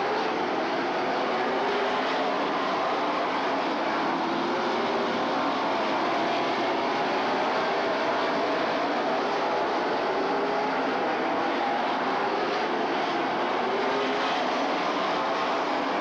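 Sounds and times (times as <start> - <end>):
race car engines droning: 0.0 - 16.0.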